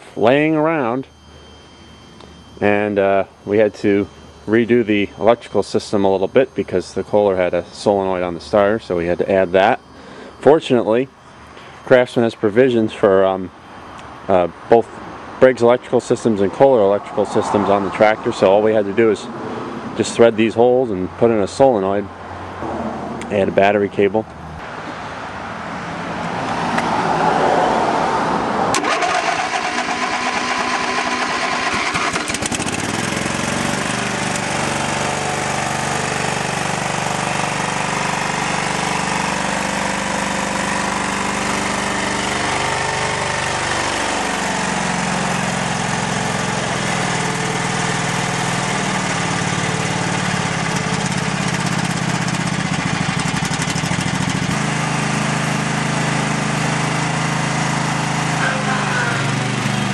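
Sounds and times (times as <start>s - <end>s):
lawn tractor engine starting and running: 0.0s - 22.0s, 28.6s - 59.9s.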